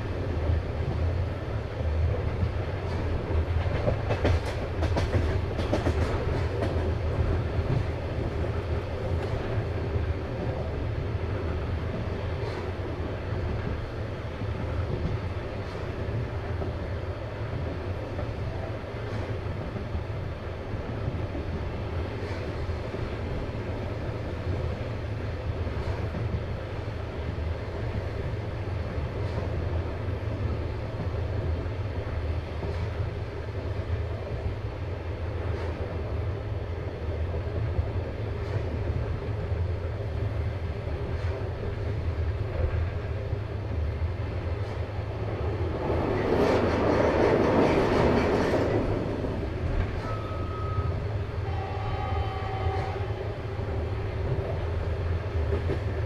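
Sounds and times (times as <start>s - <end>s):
train wheels rumbling on rails: 0.0s - 56.0s
faint rail clicks: 1.8s - 36.4s, 37.0s - 51.2s, 52.5s - 56.0s.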